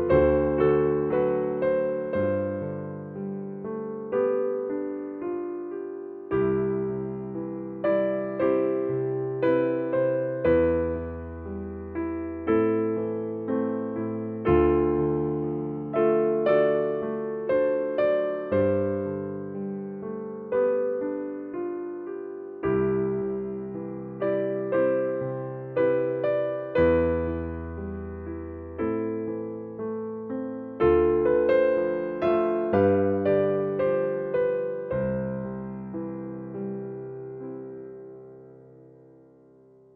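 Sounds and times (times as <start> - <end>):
soft electric piano chords: 0.0 - 39.9.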